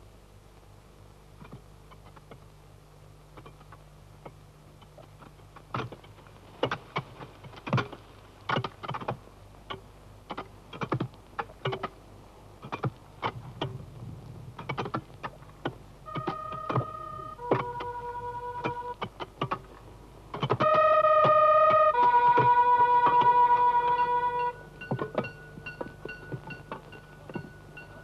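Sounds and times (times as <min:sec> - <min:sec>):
faint film soundtrack hum: 0:00.0 - 0:28.0.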